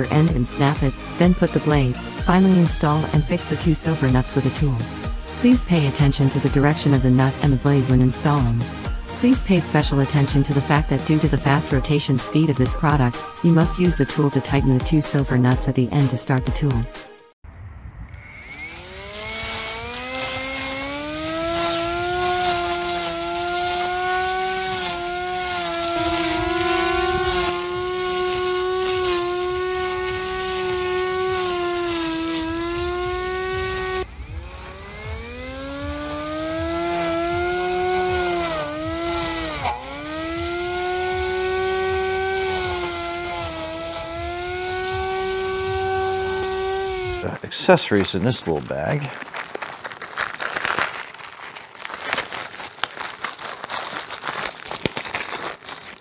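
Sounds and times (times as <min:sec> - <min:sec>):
grass trimmer motor whining: 0:00.0 - 0:16.9, 0:18.2 - 0:56.0.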